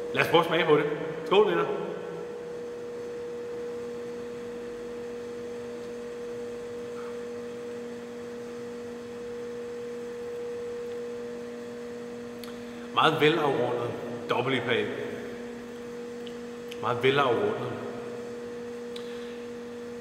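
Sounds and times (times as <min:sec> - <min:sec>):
machinery hum: 0:00.0 - 0:20.0.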